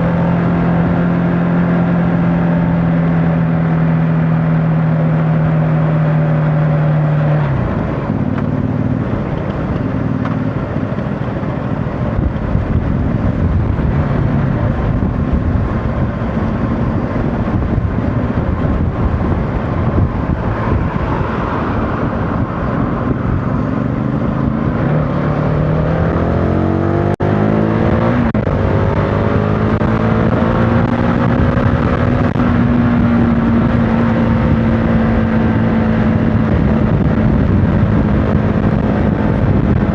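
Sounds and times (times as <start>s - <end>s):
heavy wind noise: 0.0s - 39.9s
motorcycle engine running: 0.0s - 39.9s
road noise: 0.0s - 39.9s.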